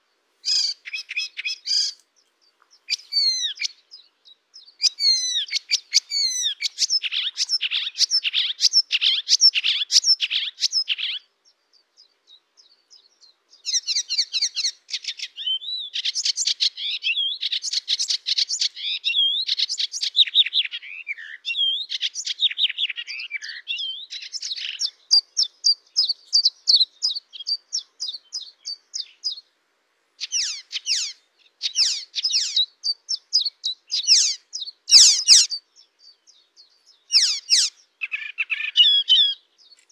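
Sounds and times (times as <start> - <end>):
warbler singing: 0.0 - 29.5, 30.2 - 39.9.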